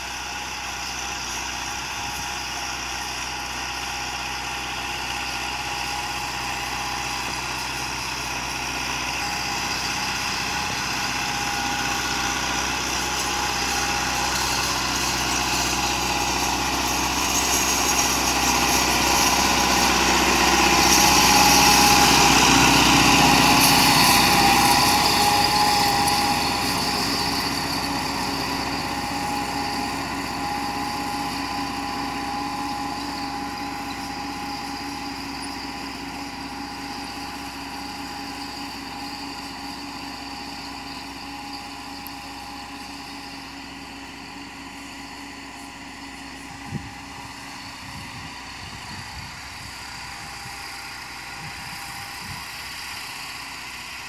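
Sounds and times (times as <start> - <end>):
steady whine: 0.0 - 54.0
tractor diesel engine under load: 0.0 - 54.0.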